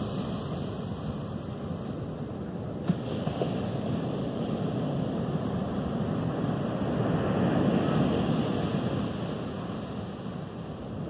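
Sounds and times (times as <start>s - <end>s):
ocean surf breaking on rocks: 0.0s - 11.0s.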